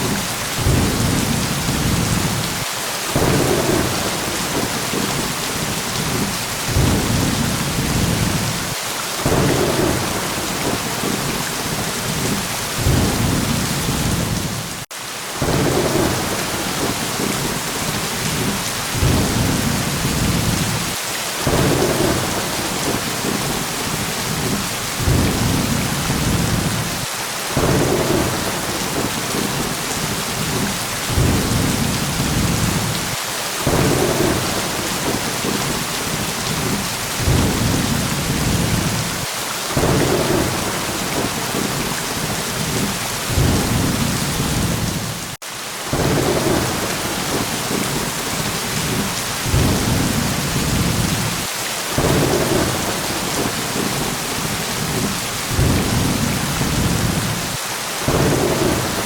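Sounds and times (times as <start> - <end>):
low thunder rumbles: 0.0 - 2.6, 3.2 - 14.8, 15.4 - 57.5, 58.1 - 59.0
heavy rain hissing: 0.0 - 59.0.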